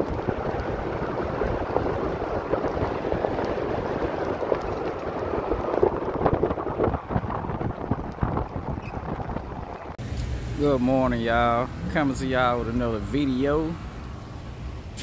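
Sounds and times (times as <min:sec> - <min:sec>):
vehicle engines: 0:00.0 - 0:15.0
wind rumbling on microphone: 0:00.0 - 0:15.0.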